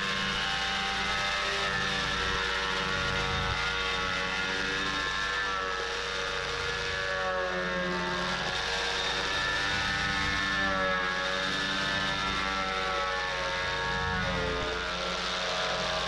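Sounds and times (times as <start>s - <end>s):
thickness planer whining: 0.0s - 16.0s.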